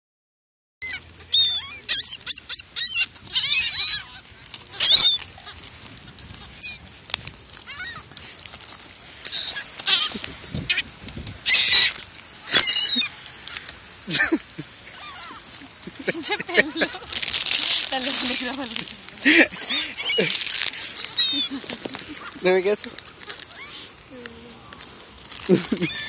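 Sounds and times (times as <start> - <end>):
gulls calling: 0.8 - 26.0.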